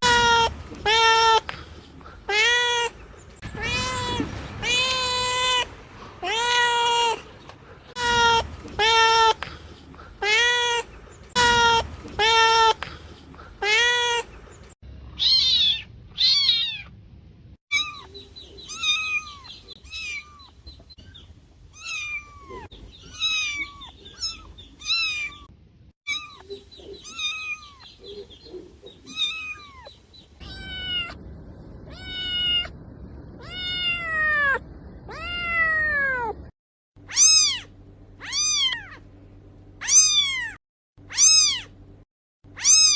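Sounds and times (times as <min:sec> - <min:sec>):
cats meowing: 0:00.0 - 0:16.9, 0:17.7 - 0:20.9, 0:21.7 - 0:25.5, 0:26.1 - 0:31.2, 0:31.9 - 0:36.5, 0:37.1 - 0:39.0, 0:39.8 - 0:41.7, 0:42.6 - 0:42.9.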